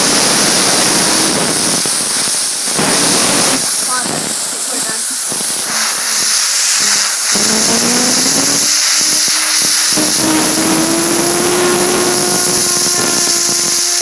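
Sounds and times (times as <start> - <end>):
compressed air blast hissing: 0.0 - 14.0
fidget spinner whine: 0.0 - 14.0.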